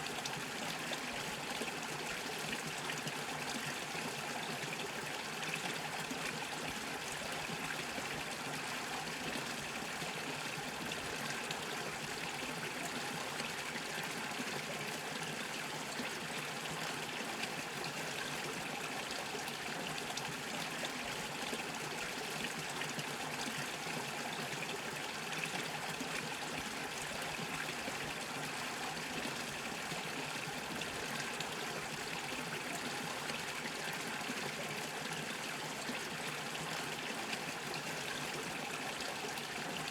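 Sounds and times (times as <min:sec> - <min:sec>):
brook bubbling over stones: 0:00.0 - 0:39.9.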